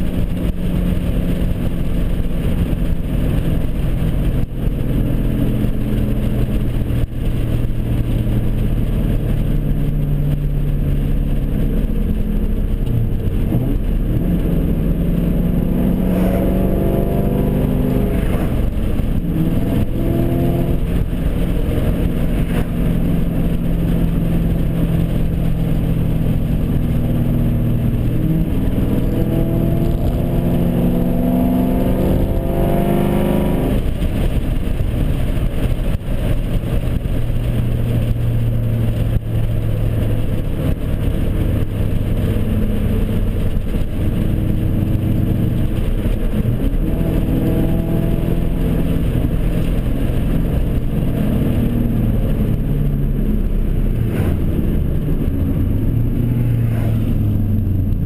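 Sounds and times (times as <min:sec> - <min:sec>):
car engine droning while driving: 0:00.0 - 0:58.0.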